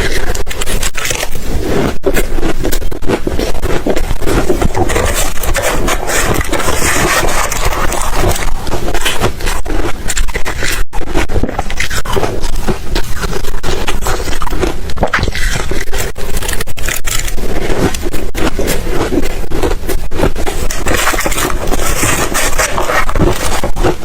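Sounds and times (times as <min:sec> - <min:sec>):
ice being crunched and chewed: 0:00.0 - 0:24.0.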